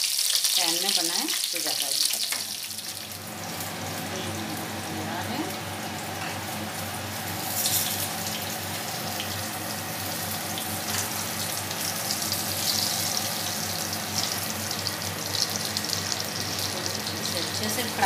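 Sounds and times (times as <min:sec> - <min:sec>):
slices sizzling in hot oil: 0:00.0 - 0:18.0.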